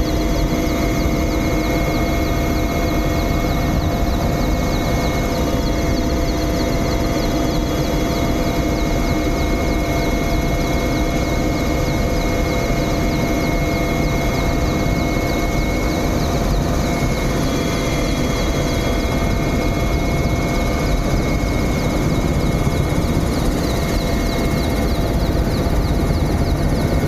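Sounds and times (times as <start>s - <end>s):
helicopter rotor and turbine: 0.0s - 27.0s.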